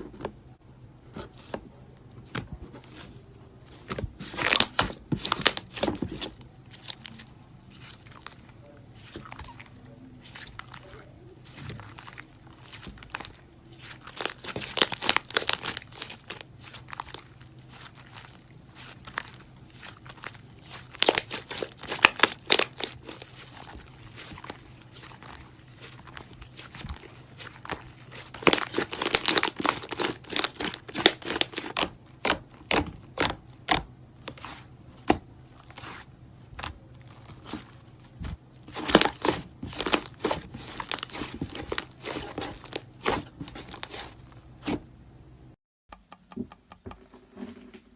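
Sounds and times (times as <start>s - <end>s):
slime squishing with crackling pops: 3.8s - 44.9s.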